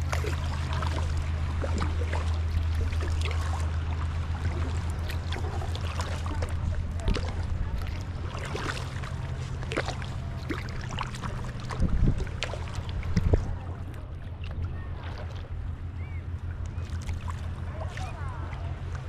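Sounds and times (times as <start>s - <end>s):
low rumble: 0.0s - 19.0s
paddle splashing in water: 0.0s - 19.0s.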